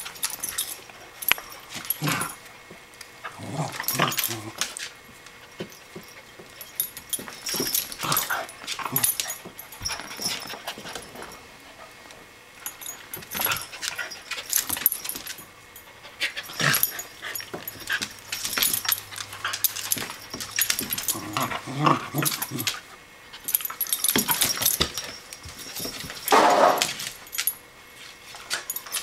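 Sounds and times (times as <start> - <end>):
paws scuffling on vinyl floor: 0.0 - 15.4, 16.1 - 29.0.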